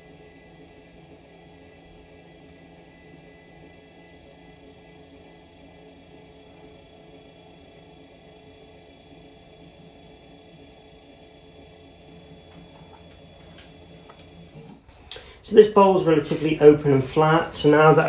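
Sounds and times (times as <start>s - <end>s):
high whine: 0.0s - 18.0s
pottery wheel motor hum: 0.0s - 18.0s.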